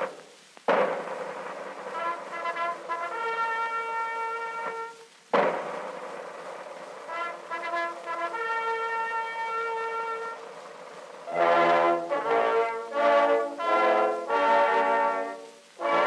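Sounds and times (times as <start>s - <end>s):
brass-led film music: 0.9s - 16.0s.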